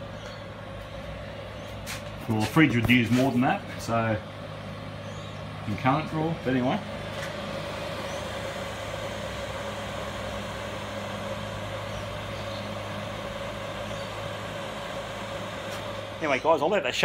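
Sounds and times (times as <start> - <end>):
heater fan humming with whine: 0.0 - 17.0.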